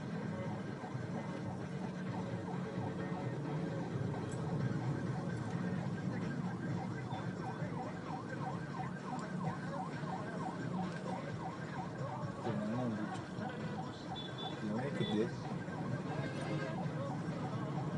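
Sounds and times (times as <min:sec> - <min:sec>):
vehicle engines rumbling: 0:00.0 - 0:17.9
police siren yelping: 0:00.2 - 0:17.9.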